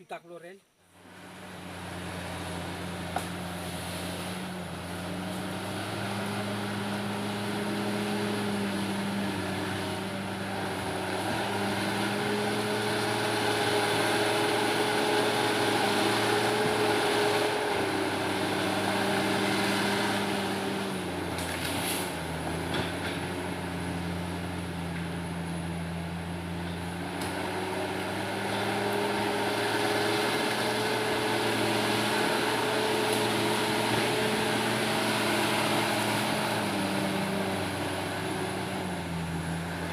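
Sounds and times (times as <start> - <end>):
bulldozer diesel engine running: 1.0 - 39.9.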